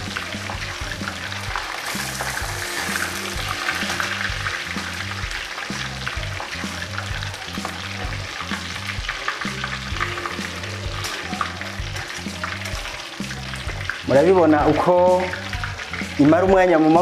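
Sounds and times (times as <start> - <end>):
fish sizzling in hot oil: 0.0 - 17.0.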